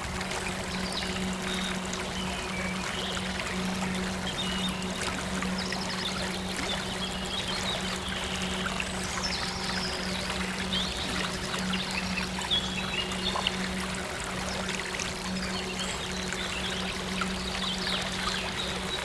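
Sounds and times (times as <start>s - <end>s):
steady low drone: 0.0s - 19.0s
trickling stream water: 0.0s - 19.0s.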